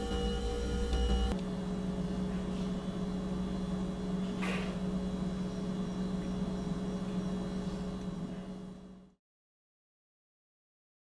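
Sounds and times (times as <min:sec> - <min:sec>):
refrigerator humming: 0:00.0 - 0:09.2.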